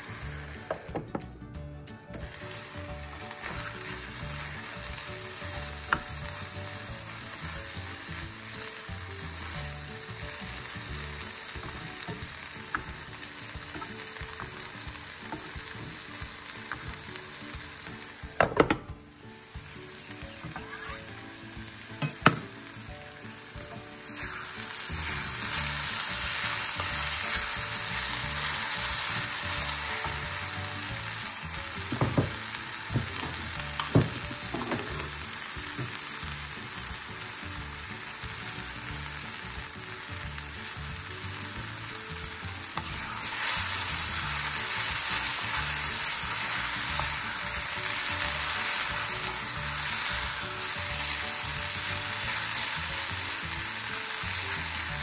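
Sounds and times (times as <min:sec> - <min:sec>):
greens sizzling in a pan: 0:00.0 - 0:01.0, 0:02.1 - 0:18.4, 0:19.1 - 0:55.0.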